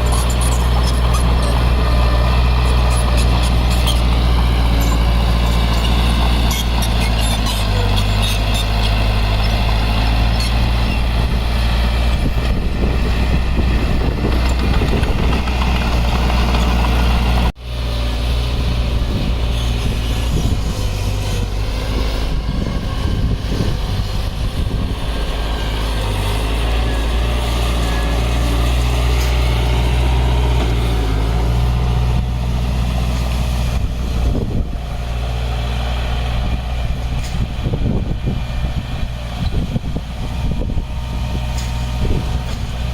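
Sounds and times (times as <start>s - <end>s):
heavy diesel engine humming: 0.0s - 42.9s.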